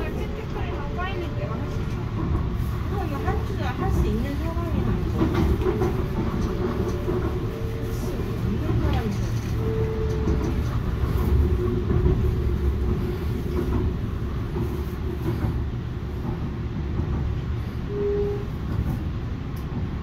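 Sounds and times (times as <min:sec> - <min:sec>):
train car low rumble: 0:00.0 - 0:20.0.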